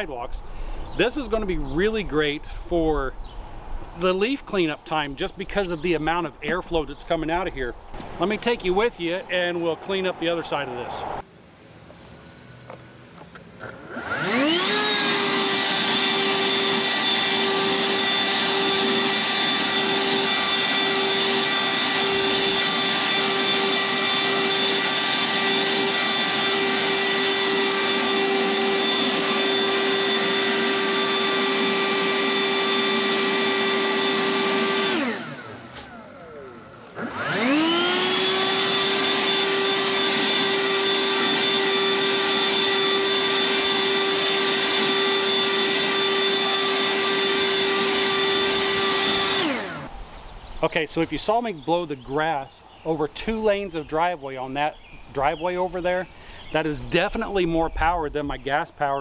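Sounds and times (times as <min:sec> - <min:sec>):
leaf blower fan whine and air rush: 0:00.0 - 0:11.3, 0:13.4 - 0:58.4.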